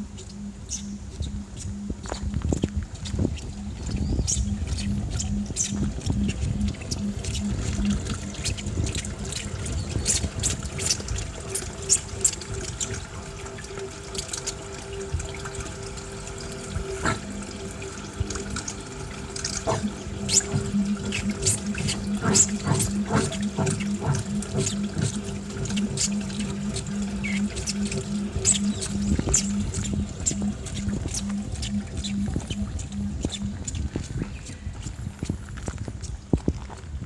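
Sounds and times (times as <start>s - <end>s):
low pulsing tone: 0.0s - 13.0s, 15.0s - 36.1s
running water: 0.0s - 37.0s.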